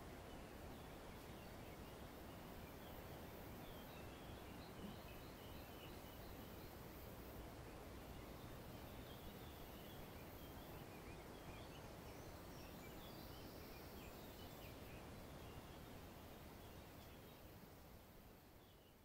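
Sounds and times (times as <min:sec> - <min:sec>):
faint bird chirps: 0:00.0 - 0:19.0
low hiss: 0:00.0 - 0:19.0.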